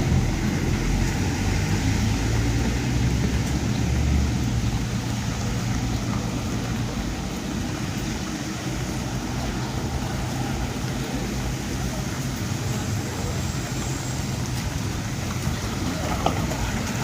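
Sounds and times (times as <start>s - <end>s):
rain hissing: 0.0s - 17.0s
vehicle engine humming: 0.0s - 17.0s.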